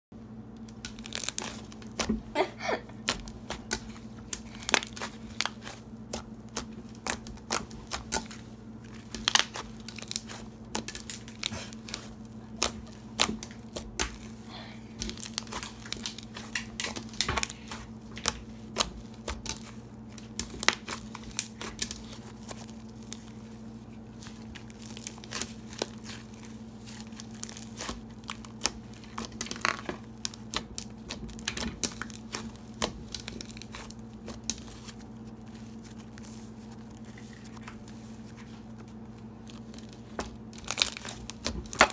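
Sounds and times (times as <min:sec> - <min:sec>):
low steady hum: 0:00.2 - 0:41.9
slime squished by hand: 0:03.0 - 0:14.4, 0:15.0 - 0:41.9.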